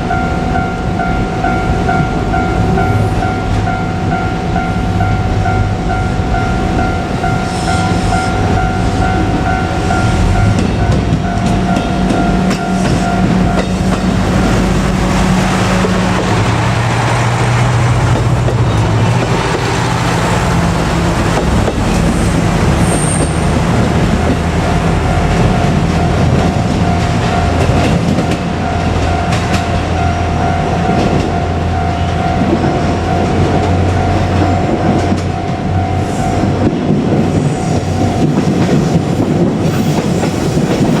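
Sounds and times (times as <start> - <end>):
diesel railcar engine: 0.0 - 41.0
train wheels on rails: 0.0 - 41.0.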